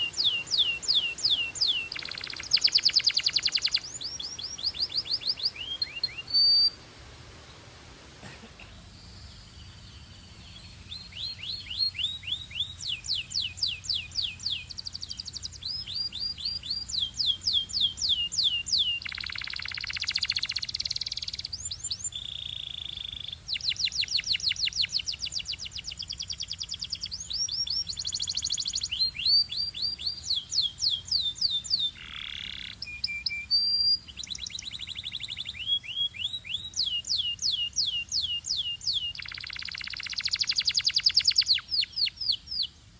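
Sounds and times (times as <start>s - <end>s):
canary singing: 0.0s - 6.8s, 9.7s - 42.8s.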